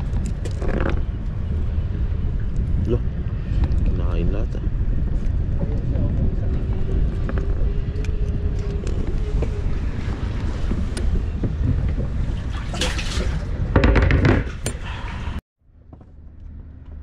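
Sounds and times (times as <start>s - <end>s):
wind buffeting microphone: 0.0s - 15.4s
low rumble: 0.0s - 17.0s.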